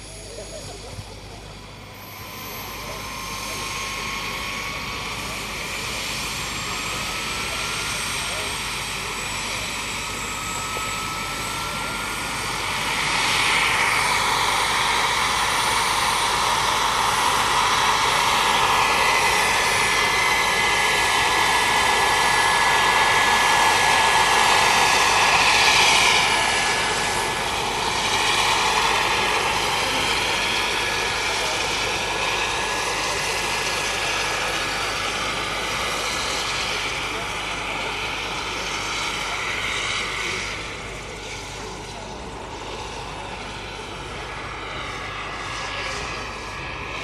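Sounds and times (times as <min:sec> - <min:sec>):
model helicopter turbine whine: 0:00.0 - 0:47.0.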